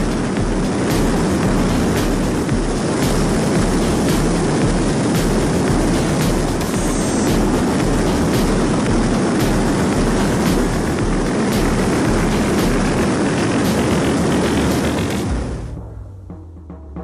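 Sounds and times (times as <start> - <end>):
wind rush: 0.0 - 16.1
turboprop engine and propeller: 0.0 - 16.3.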